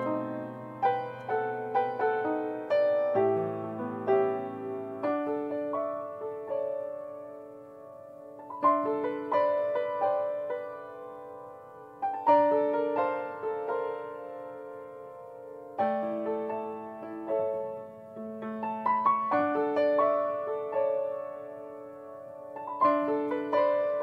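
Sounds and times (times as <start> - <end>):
solo grand piano: 0.0 - 24.0.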